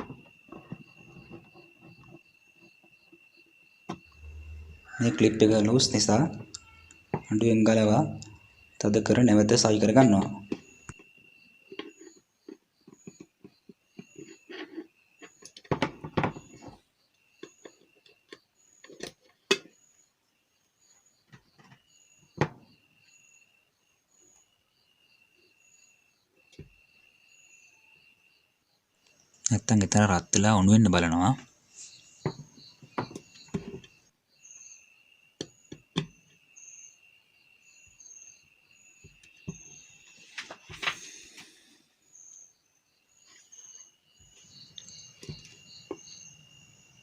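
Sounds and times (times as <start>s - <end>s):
insects chirping: 0.0s - 47.0s.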